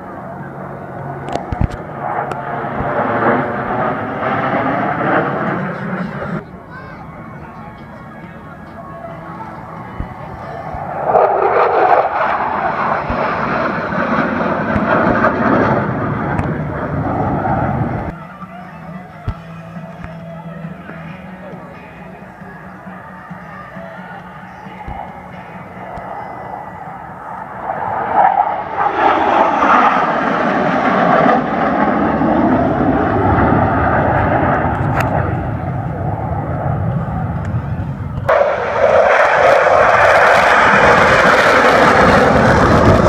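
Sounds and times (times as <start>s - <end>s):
jet aircraft flying past: 0.0s - 19.9s, 20.5s - 43.0s.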